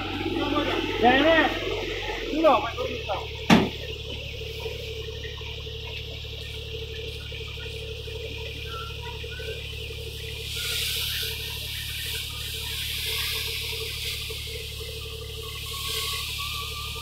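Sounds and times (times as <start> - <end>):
combine harvester engine hum: 0.0 - 17.0.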